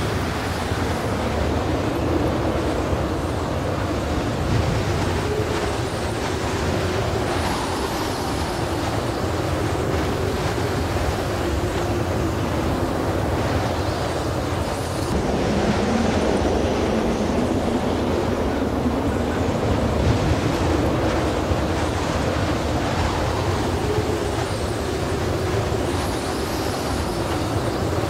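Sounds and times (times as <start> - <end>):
faint wavering hum: 0.0 - 28.0
steady rushing noise: 0.0 - 28.0.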